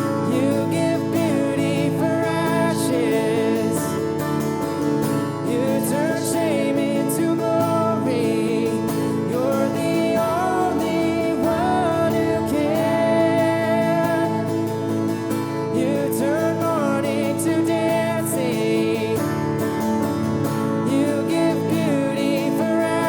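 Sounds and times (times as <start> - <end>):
guitar chords: 0.0 - 23.0
person singing worship song: 0.0 - 23.0.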